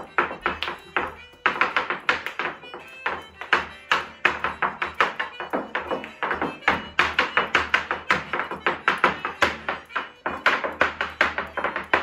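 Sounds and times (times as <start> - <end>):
faint backing music: 0.0 - 12.0
hard shoes striking wooden board: 0.0 - 12.0.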